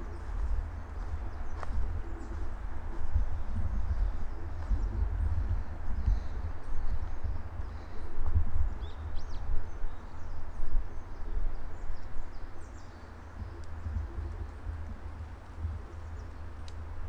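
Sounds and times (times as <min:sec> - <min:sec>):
small birds chirping: 0:00.0 - 0:17.0
uneven low rumble: 0:00.0 - 0:17.0.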